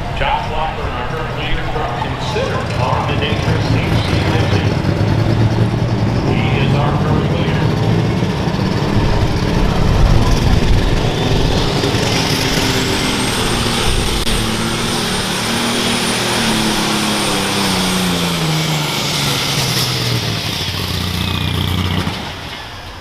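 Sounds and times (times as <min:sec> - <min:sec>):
tractor engine running hard: 0:00.0 - 0:23.0
turbocharger whine: 0:00.0 - 0:23.0.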